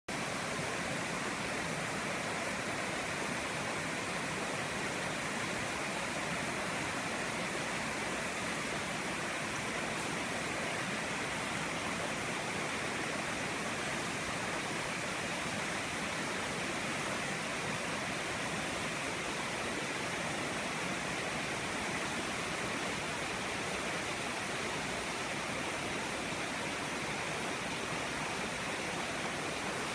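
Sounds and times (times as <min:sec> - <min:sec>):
stream rushing over boulders: 0:00.1 - 0:29.9.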